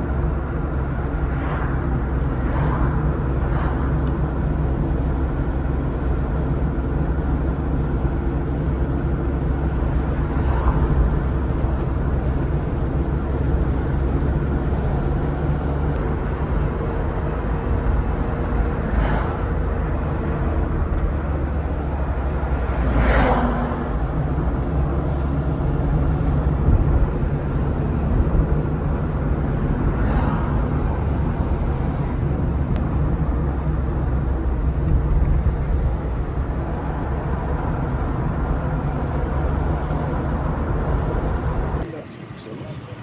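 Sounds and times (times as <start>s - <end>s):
low traffic rumble: 0.0s - 43.0s
vehicles passing: 0.0s - 43.0s.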